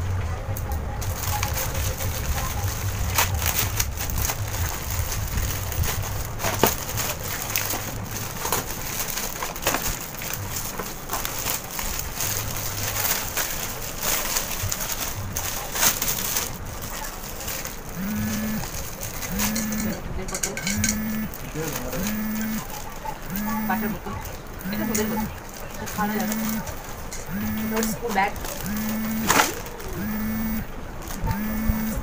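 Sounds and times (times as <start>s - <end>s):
cellophane crinkling and rustling: 0.6s - 32.0s.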